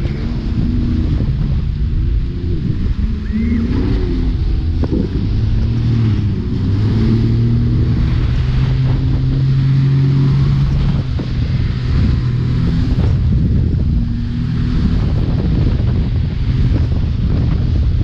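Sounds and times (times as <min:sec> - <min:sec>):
churning wake rushing: 0:00.0 - 0:18.0
motorboat engine running: 0:00.0 - 0:18.0
wind buffeting microphone: 0:00.0 - 0:18.0.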